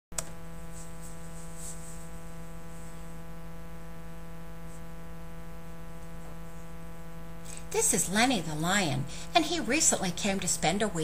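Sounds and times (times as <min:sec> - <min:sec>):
electrical buzzing hum: 0:00.1 - 0:11.0.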